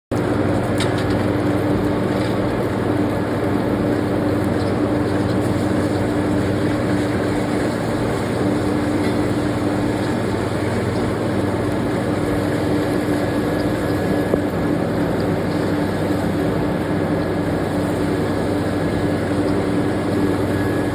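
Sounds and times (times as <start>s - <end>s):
machine motor drone: 0.1s - 20.9s.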